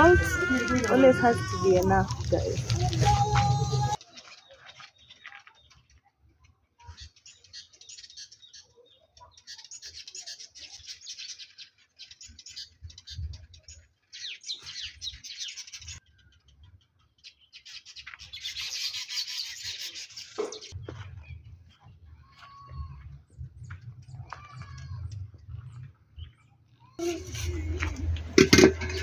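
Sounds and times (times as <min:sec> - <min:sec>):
small birds chirping: 0:00.0 - 0:27.3.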